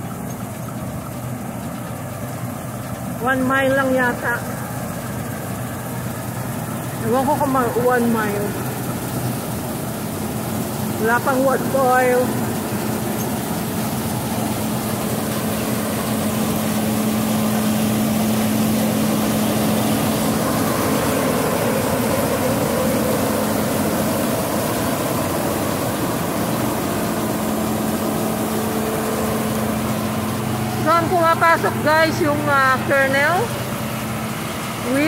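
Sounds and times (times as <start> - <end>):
combine harvester engine and machinery: 0.0 - 35.0.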